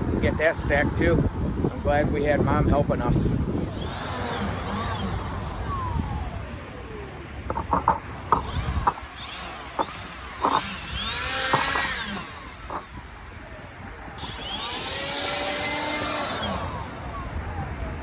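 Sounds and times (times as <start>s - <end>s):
vehicles passing by: 0.0s - 18.0s.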